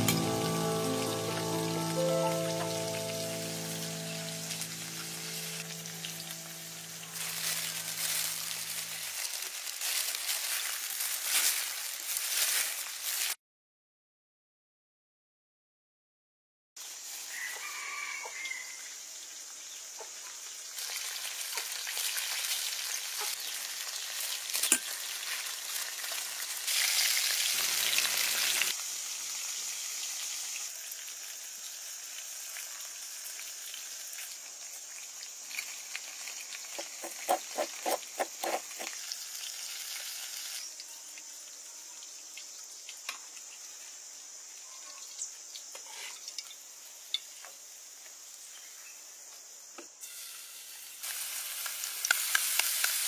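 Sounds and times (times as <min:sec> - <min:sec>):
chicken frying in hot oil: 0:04.7 - 0:13.4, 0:16.8 - 0:48.5, 0:50.0 - 0:53.0.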